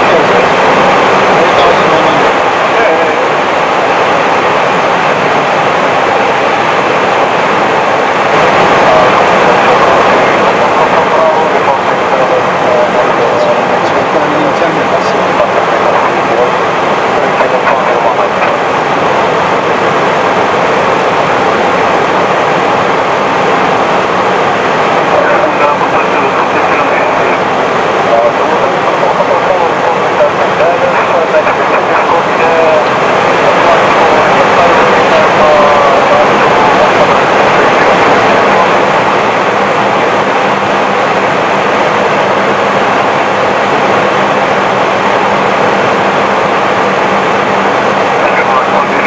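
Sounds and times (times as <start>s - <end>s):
airflow and ventilation noise: 0.0s - 49.0s
constant low hum: 0.0s - 49.0s.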